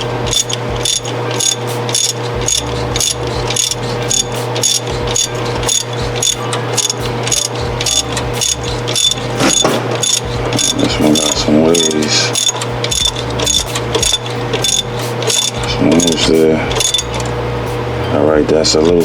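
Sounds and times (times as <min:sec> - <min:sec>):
hand ratchet clicking: 0:00.0 - 0:18.2
steady low hum: 0:00.0 - 0:19.0.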